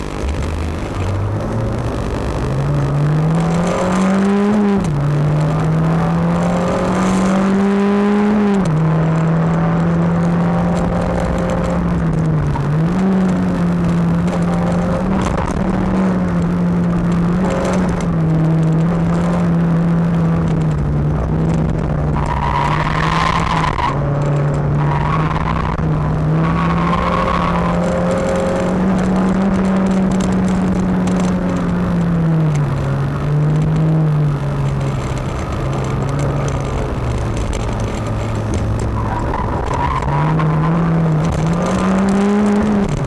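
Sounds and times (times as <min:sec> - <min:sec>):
race car engine under load: 0:00.0 - 0:43.0.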